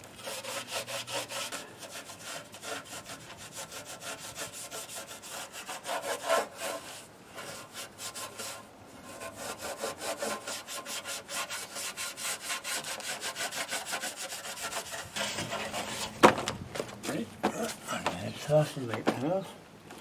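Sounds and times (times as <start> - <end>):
hand tool scraping: 0.0 - 18.6.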